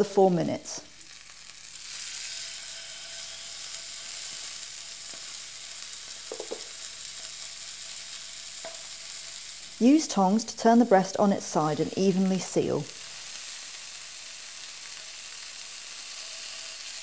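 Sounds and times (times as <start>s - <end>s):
meat sizzling in a frying pan: 0.8s - 17.0s.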